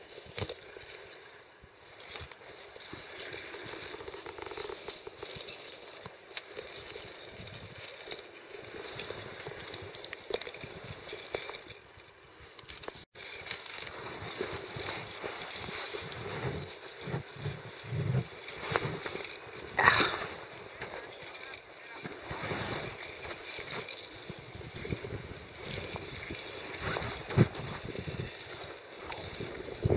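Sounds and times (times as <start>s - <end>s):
net scraping over snow and ice: 1.8s - 11.8s, 13.1s - 29.9s.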